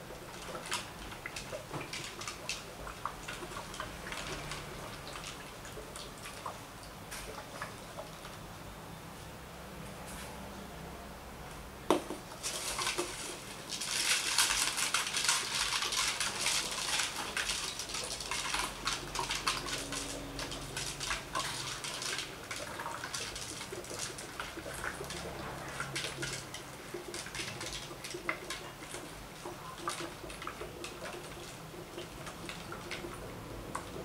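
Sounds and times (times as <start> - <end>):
water splashing and trickling: 0.0 - 8.4, 12.4 - 34.0.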